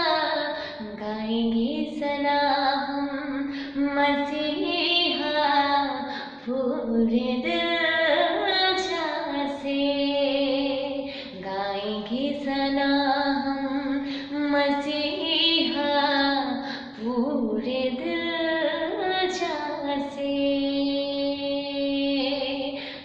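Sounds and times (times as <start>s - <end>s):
woman singing worship song: 0.0s - 23.0s.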